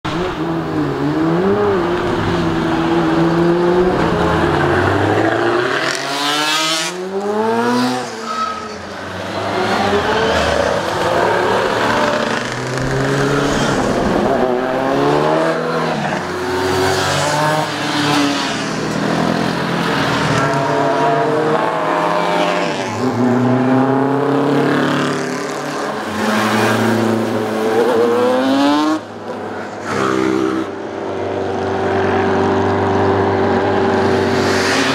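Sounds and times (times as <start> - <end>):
racing motorcycle engines: 0.1 - 34.9.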